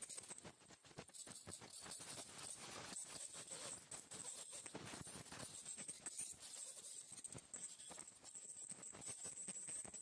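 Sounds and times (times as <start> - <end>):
rapid clicking and scratching: 0.0 - 10.0.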